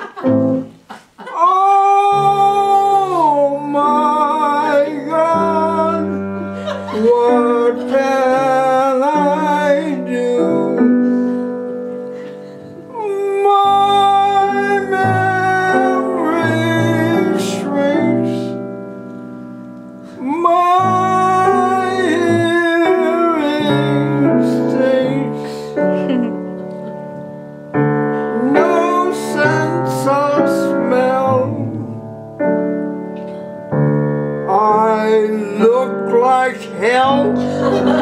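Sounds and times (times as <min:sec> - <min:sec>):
grand piano chords: 0:00.0 - 0:38.0
man singing: 0:01.2 - 0:11.6, 0:12.8 - 0:18.7, 0:20.1 - 0:26.5, 0:28.1 - 0:32.7, 0:34.4 - 0:38.0.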